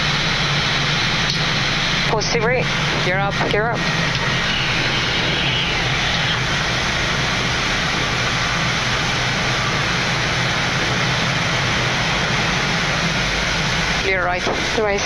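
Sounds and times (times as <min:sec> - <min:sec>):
airflow rushing: 0:00.0 - 0:15.0
jet engine noise: 0:00.0 - 0:15.0
low hum: 0:00.0 - 0:15.0.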